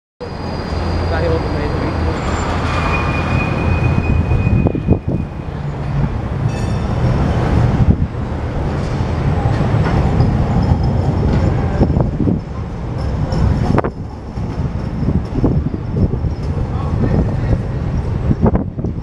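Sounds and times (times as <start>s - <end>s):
street traffic: 0.2s - 19.0s
tram rumbling past: 0.2s - 19.0s.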